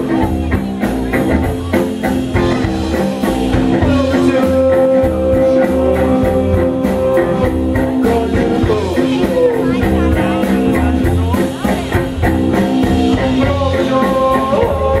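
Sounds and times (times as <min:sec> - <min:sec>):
drums: 0:00.0 - 0:15.0
electric bass guitar: 0:00.0 - 0:15.0.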